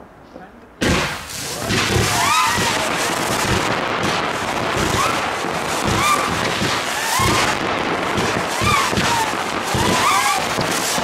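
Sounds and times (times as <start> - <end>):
fireworks crackling and banging: 0.8 - 11.0
firework whistles chirping: 0.9 - 11.0.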